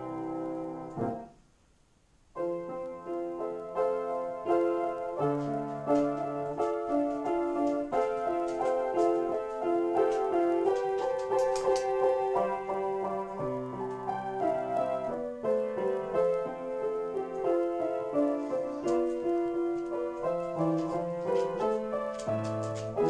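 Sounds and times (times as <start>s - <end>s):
piano improvisation: 0.0s - 1.4s, 2.4s - 23.0s.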